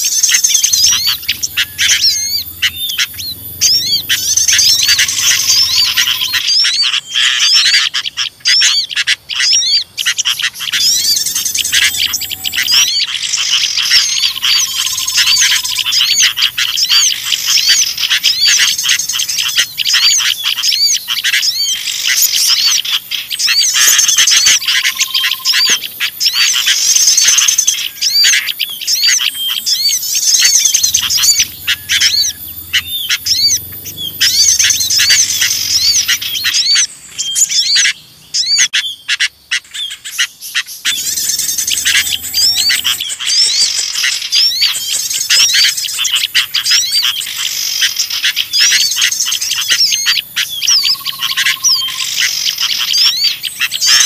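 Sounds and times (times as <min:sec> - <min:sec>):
bulbuls chattering: 0:00.0 - 0:54.0
small songbirds chirping: 0:00.0 - 0:54.0.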